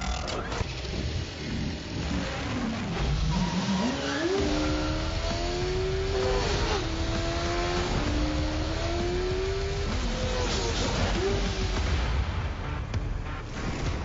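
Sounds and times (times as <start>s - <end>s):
motorcycle engine accelerating: 0.0s - 12.1s.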